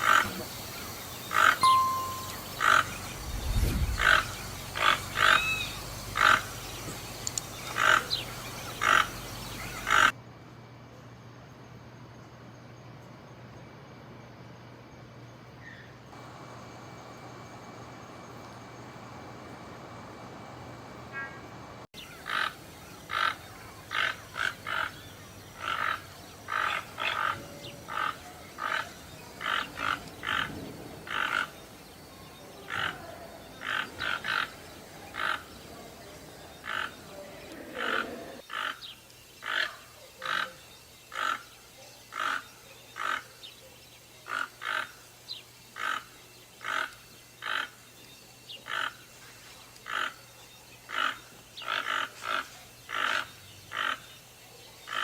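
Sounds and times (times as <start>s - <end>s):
toucans croaking calls: 0.0s - 10.2s, 21.1s - 55.0s.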